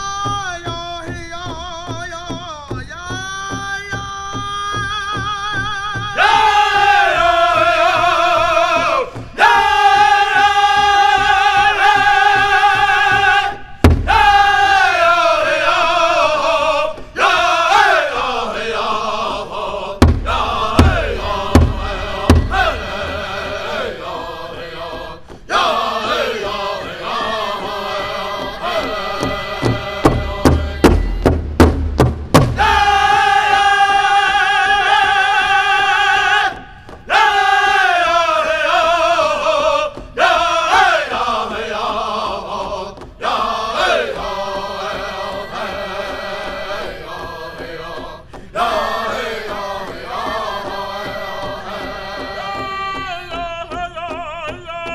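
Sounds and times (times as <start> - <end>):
big drum beats: 0.0 - 54.9
group singing high held notes: 6.0 - 31.5, 32.4 - 54.9.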